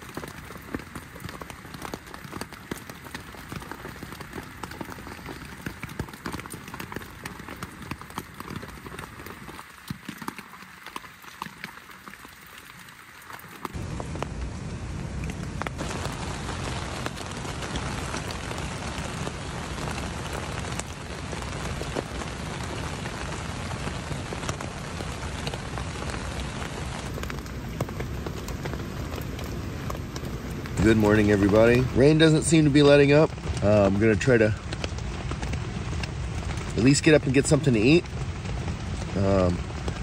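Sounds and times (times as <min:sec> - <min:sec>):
rain on tent fabric: 0:00.0 - 0:40.0.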